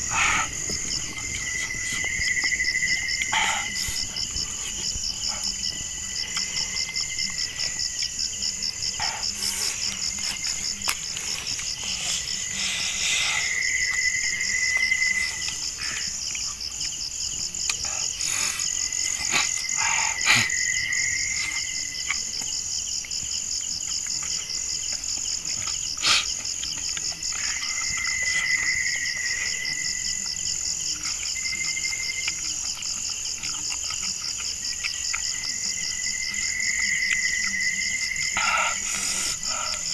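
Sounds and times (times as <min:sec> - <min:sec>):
insects trilling: 0:00.0 - 0:39.9
lower insect call: 0:00.0 - 0:39.9.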